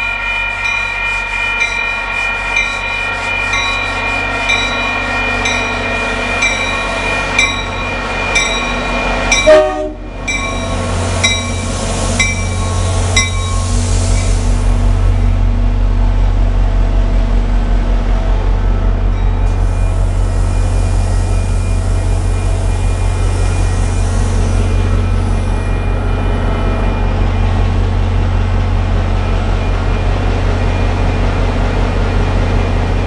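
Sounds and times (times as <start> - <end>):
locomotive bell ringing: 0.0 - 17.2, 17.8 - 33.0.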